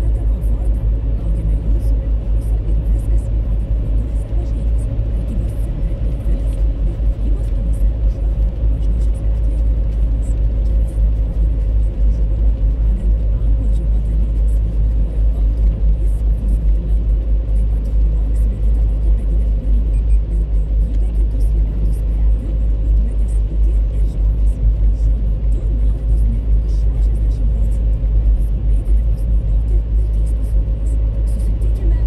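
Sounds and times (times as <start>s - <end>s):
car interior road rumble: 0.0s - 32.0s.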